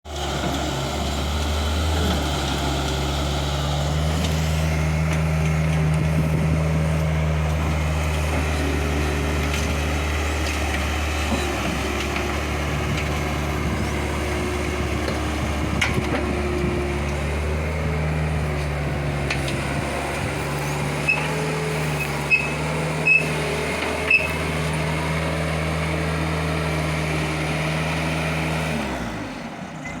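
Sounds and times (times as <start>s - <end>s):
skid-steer loader engine running: 0.1s - 30.0s.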